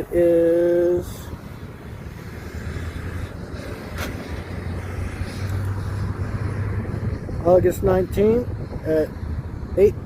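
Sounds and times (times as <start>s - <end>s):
road noise: 0.0s - 10.0s
vehicle engine hum: 0.0s - 10.0s.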